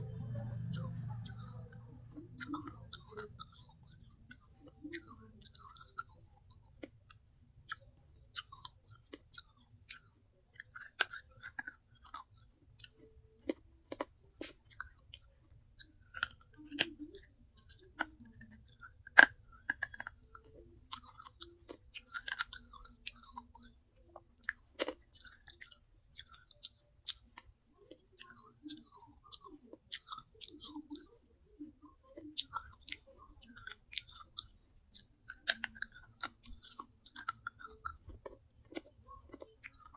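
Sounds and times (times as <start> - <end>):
clay pot crunching when chewed: 0.0 - 39.9.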